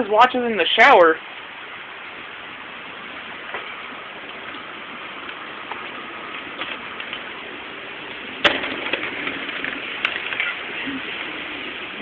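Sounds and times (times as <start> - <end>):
hard rain falling: 0.0 - 12.0.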